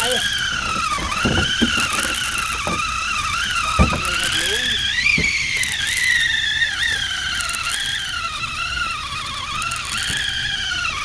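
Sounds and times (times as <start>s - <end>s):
fishing reel drag screaming: 0.0s - 11.0s.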